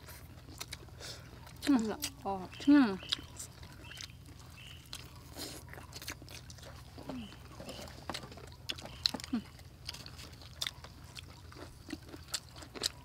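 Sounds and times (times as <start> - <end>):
people chewing chicken: 0.0 - 13.0
wet eating clicks and smacks: 0.3 - 13.0.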